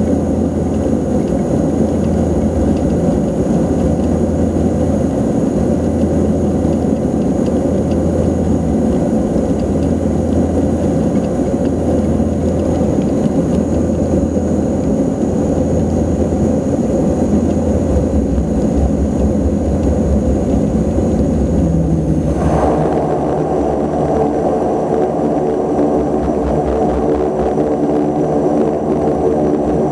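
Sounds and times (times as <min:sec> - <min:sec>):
turboprop engines droning: 0:00.0 - 0:29.9.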